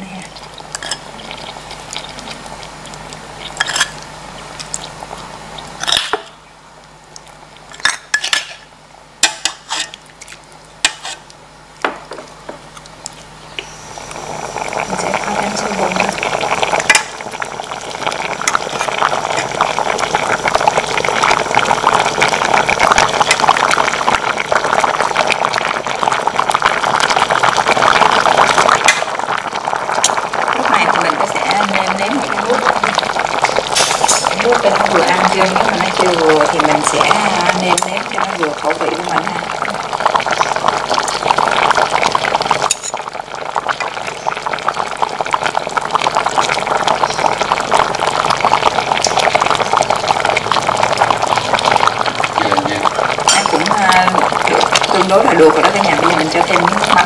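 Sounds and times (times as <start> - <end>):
liquid bubbling at a boil: 0.0 - 57.0.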